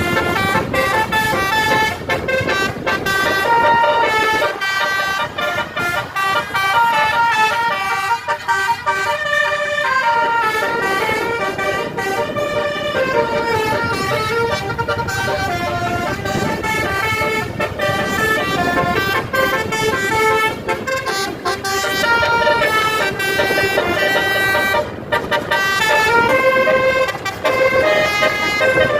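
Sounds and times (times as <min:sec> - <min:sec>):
multi-tone bus horn tune: 0:00.0 - 0:28.9.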